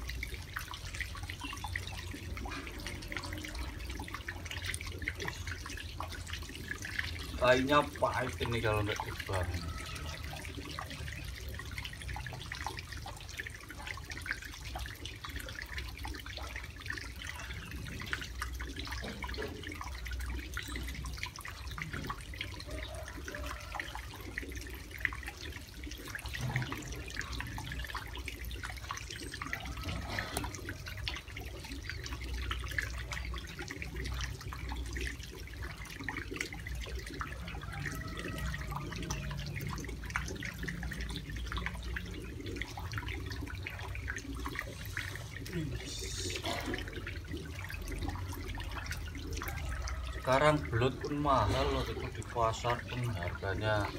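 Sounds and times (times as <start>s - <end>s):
water splashing in plastic basin: 0.0s - 53.9s.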